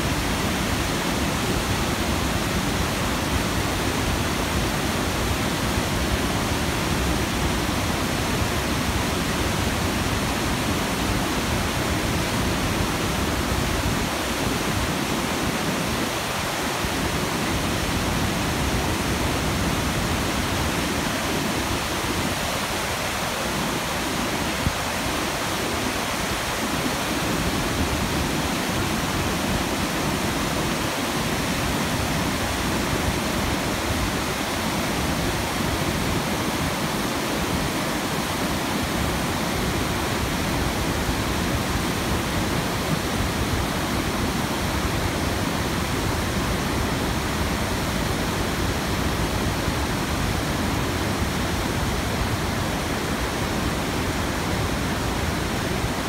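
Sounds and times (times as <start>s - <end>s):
waterfall rushing over boulders: 0.0s - 56.0s.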